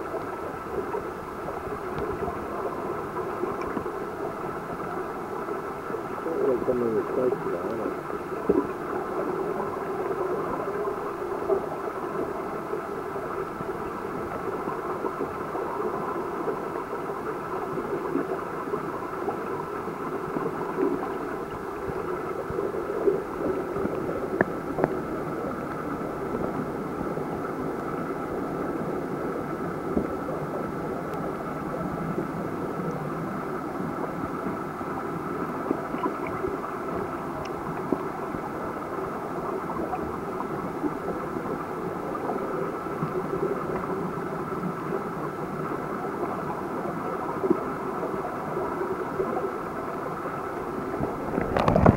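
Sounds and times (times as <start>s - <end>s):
muffled underwater rush of water: 0.0s - 51.9s.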